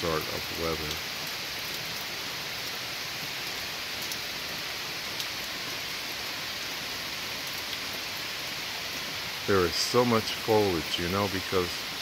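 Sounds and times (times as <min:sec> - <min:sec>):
heavy rain on foliage: 0:00.0 - 0:12.0.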